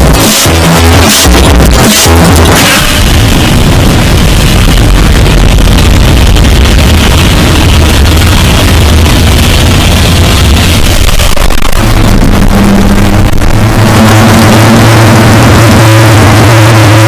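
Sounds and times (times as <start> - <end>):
distorted noisy rumble: 0.0 - 17.0
harsh buzzing drone: 0.0 - 17.0.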